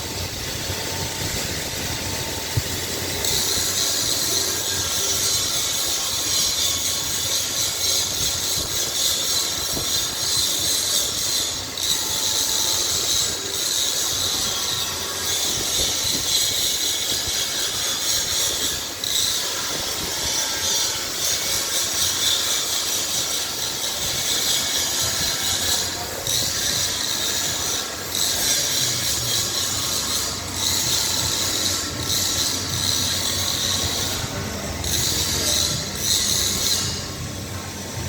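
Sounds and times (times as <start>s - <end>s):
high-pitched metalworking hiss: 0.0s - 38.0s.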